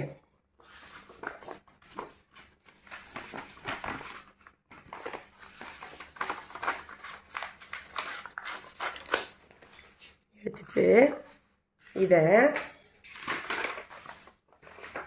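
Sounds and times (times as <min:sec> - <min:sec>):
stiff paper rustling and crackling: 0:00.6 - 0:10.2, 0:11.8 - 0:15.0.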